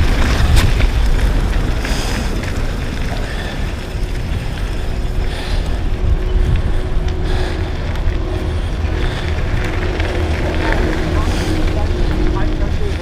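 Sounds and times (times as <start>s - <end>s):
bike tyres rolling over dirt: 0.0s - 13.0s
wind buffeting microphone: 0.0s - 13.0s.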